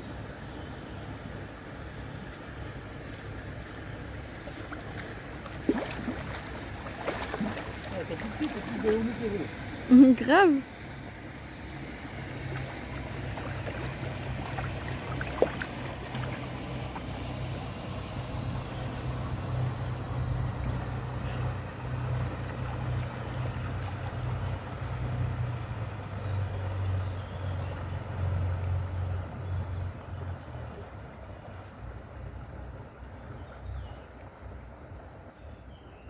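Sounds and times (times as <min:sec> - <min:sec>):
boat diesel engine drone: 0:00.0 - 0:35.9.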